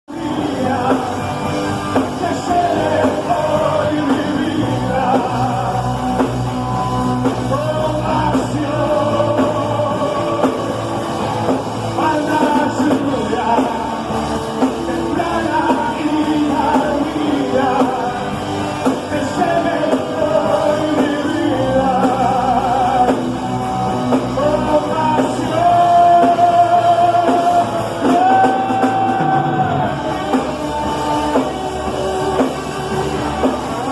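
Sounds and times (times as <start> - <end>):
rock worship music from band: 0.0 - 33.9.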